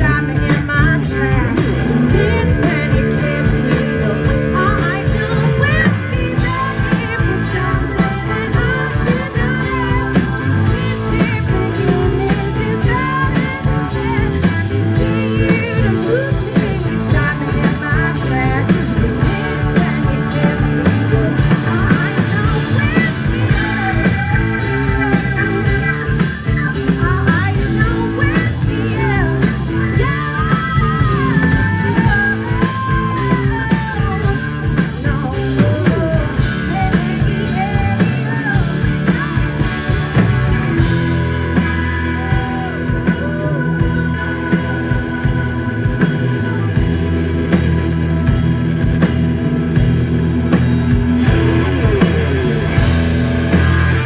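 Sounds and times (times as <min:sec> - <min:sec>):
blues rock band playing: 0:00.0 - 0:54.0
electric guitar lead lines: 0:00.0 - 0:54.0.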